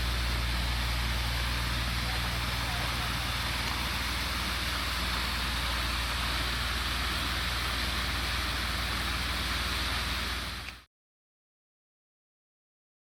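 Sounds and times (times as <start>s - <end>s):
low steady hum: 0.0s - 10.9s
rainfall hiss: 0.0s - 10.9s.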